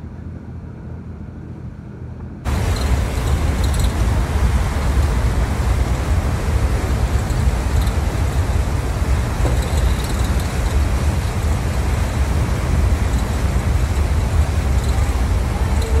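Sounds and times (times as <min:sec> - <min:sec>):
ship engine and propeller wash: 0:00.0 - 0:16.0
wind buffeting microphone: 0:02.5 - 0:16.0.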